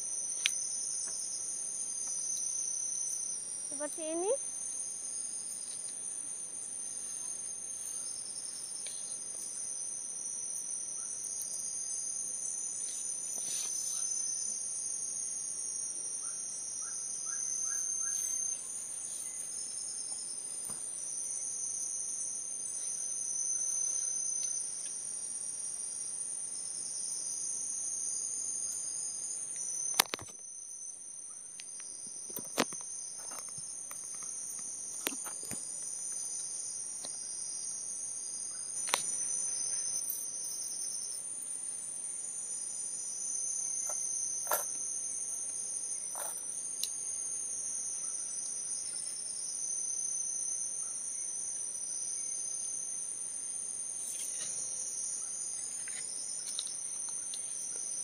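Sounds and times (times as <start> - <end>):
insects high-pitched buzz: 0.0 - 58.0
pulsing insect drone: 0.0 - 58.0.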